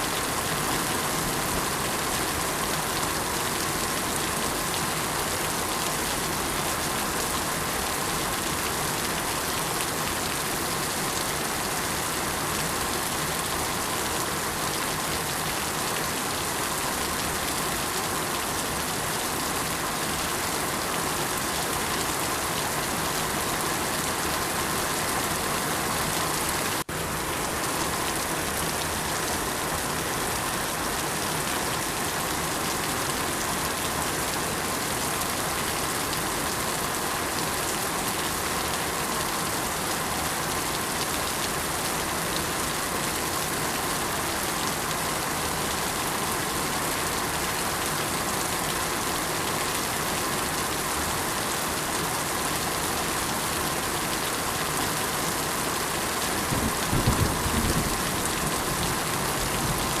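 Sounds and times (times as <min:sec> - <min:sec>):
heavy rain pattering: 0:00.0 - 1:00.0.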